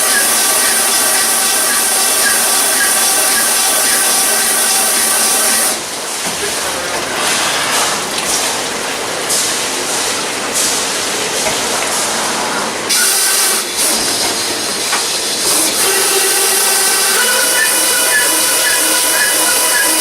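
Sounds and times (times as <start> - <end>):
loud steady hissing: 0.0 - 20.0.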